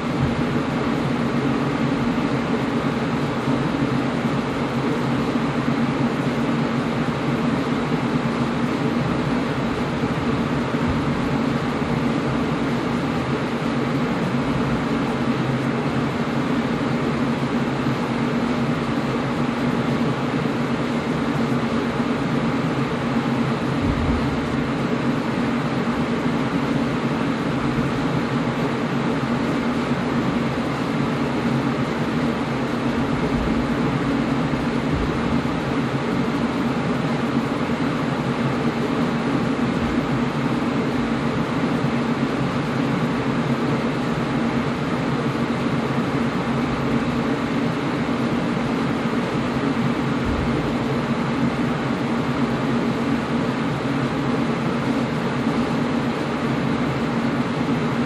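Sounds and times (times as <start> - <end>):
air conditioner running: 0.0 - 58.0.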